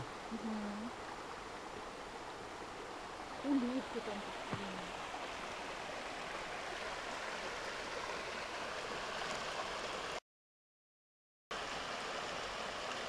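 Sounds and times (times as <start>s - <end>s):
stream rushing over stones: 0.0s - 10.2s, 11.5s - 13.0s.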